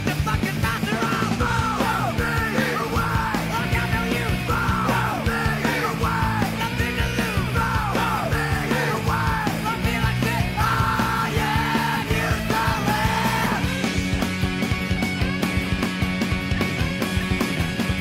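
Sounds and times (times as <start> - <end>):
rock music with yelled vocal: 0.0 - 18.0.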